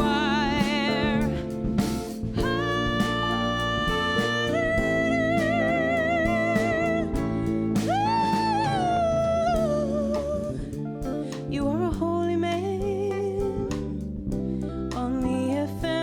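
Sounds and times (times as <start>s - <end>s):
band accompaniment: 0.0s - 16.0s
lead guitar with vibrato: 0.0s - 16.0s.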